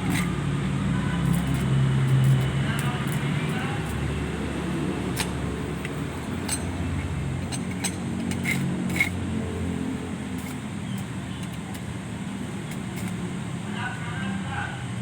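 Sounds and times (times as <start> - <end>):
arc welding hum and hiss: 0.0 - 14.2.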